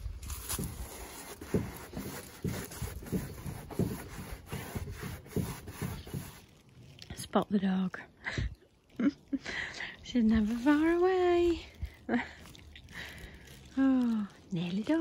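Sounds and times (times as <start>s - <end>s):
paintbrush scrubbing wooden fence: 0.0s - 7.3s, 10.1s - 15.0s.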